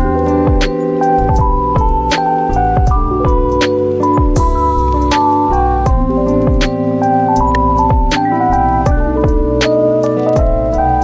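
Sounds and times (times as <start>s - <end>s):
low drum beat: 0.0s - 6.8s, 7.4s - 9.7s, 10.4s - 11.0s
held keyboard chords: 0.0s - 11.0s.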